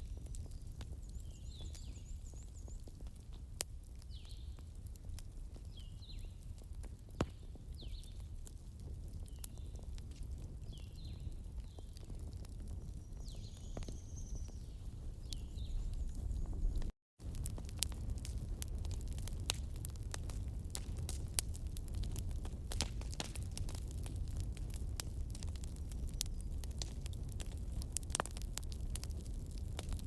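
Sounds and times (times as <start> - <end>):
wood fire crackling: 0.0 - 30.0
sharp pops of fire: 5.1 - 30.0.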